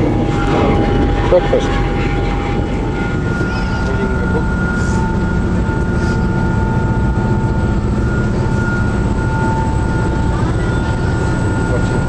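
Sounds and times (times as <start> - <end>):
engine whining tones: 0.0 - 12.0
ferry engines droning: 0.0 - 12.0.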